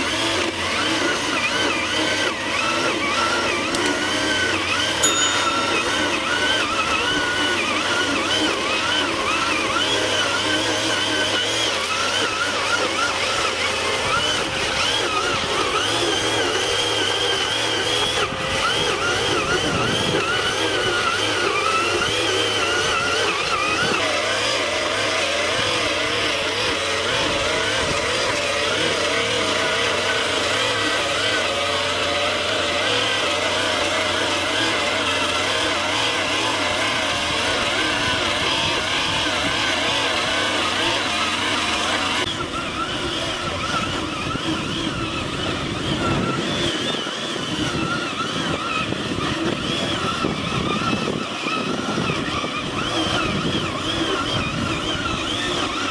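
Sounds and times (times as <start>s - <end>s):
brush cutter engine running fast: 0.0s - 55.9s.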